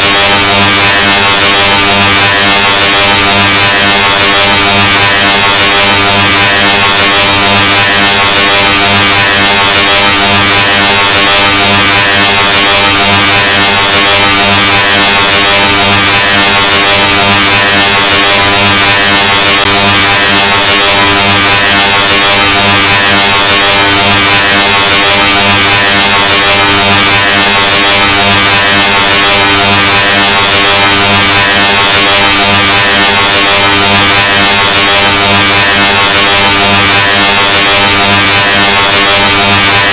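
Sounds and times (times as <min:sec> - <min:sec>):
distorted buzzing tone: 0:00.0 - 0:39.9.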